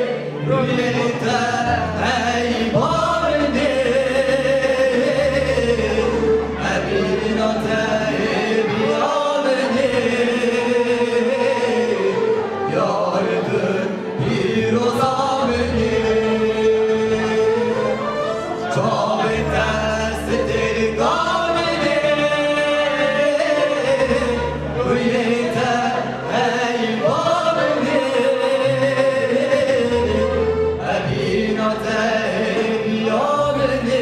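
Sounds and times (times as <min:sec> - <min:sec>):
electronic keyboard accompaniment: 0:00.0 - 0:34.0
man singing into a microphone: 0:00.0 - 0:34.0.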